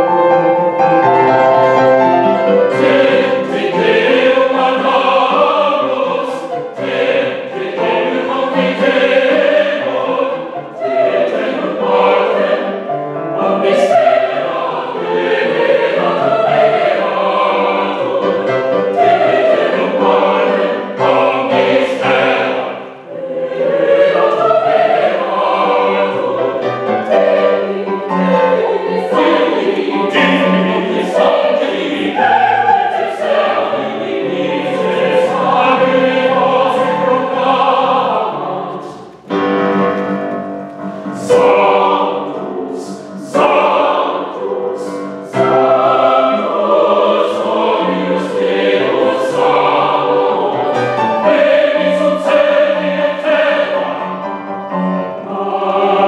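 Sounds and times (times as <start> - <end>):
mixed choir singing: 0.0 - 56.0
piano accompaniment: 0.0 - 56.0.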